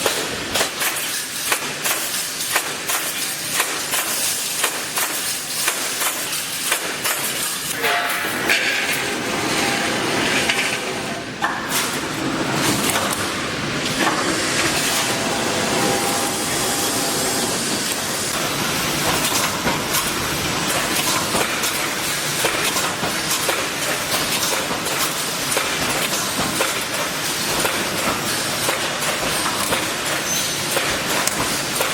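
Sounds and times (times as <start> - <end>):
machine clattering: 0.0 - 31.9.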